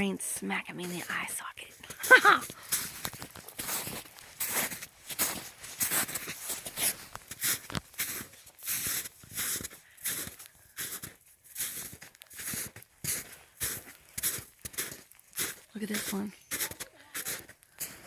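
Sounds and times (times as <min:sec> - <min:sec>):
footsteps crunching on wet trail: 0:01.8 - 0:18.0.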